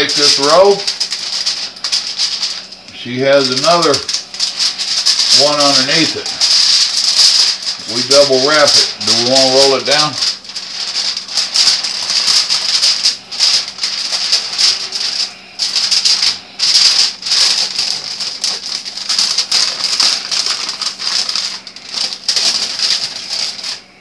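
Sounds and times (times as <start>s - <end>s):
aluminum foil crinkling: 0.0s - 24.0s.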